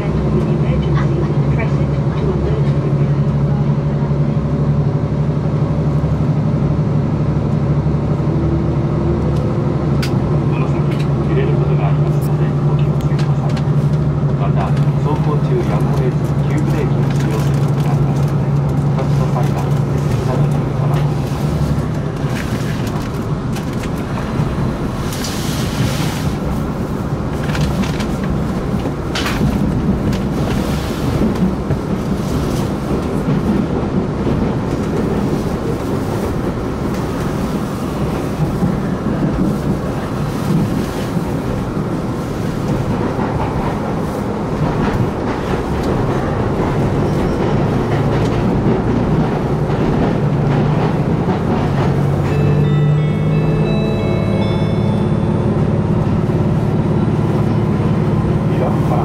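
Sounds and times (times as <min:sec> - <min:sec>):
diesel engine hum: 0:00.0 - 0:59.0
train wheels rumbling on rails: 0:00.0 - 0:59.0.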